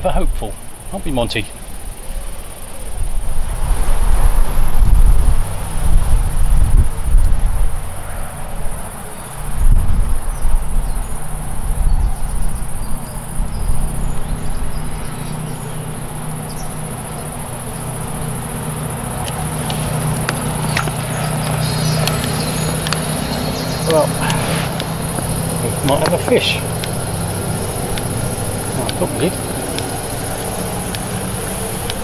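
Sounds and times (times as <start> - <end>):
insects chirring: 0.0 - 32.0
wind buffeting microphone: 2.8 - 8.0, 9.5 - 32.0.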